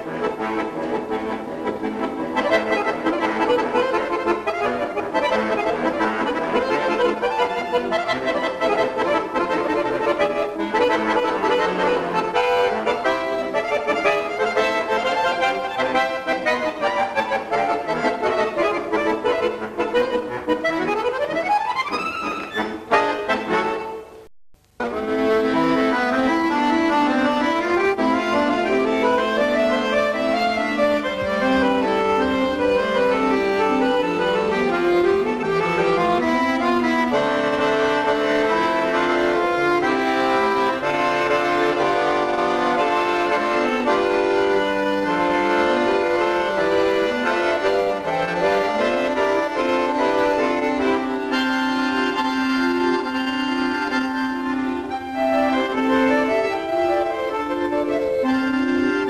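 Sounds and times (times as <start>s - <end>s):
button accordion playing: 0.0s - 59.0s.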